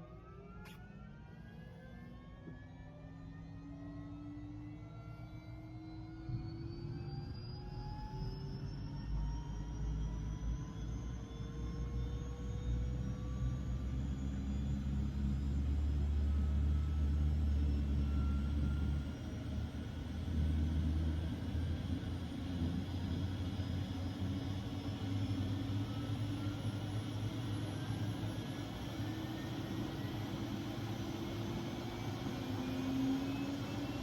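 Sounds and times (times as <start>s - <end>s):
helicopter turbine engine whine: 0.0s - 34.0s.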